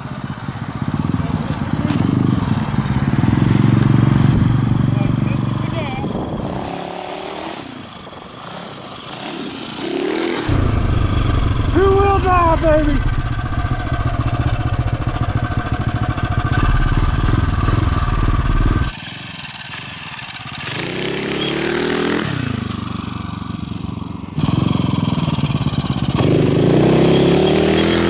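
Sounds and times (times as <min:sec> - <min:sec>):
dirt bike engine revving: 0:00.8 - 0:28.0.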